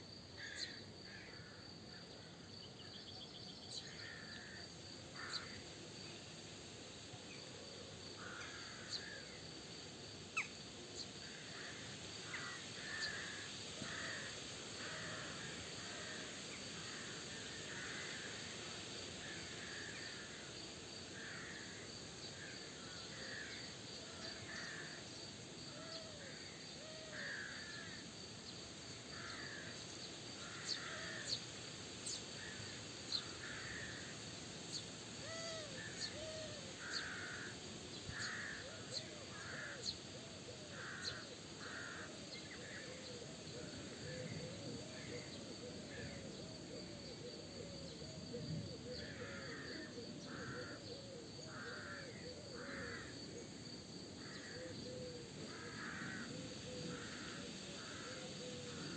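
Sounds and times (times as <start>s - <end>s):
steady high hiss: 0.0s - 58.9s.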